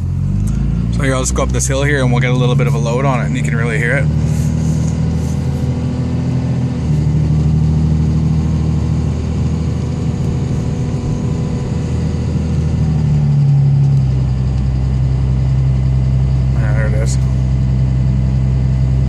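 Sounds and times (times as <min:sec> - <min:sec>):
diesel engine pulling under load: 0:00.0 - 0:19.0
fuel-injection rattle: 0:00.0 - 0:19.0.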